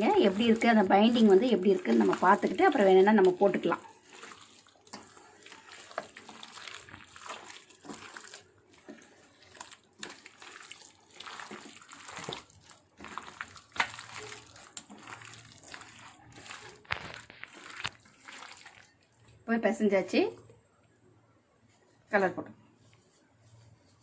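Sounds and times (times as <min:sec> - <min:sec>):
hands squishing raw chicken: 0:00.0 - 0:19.4.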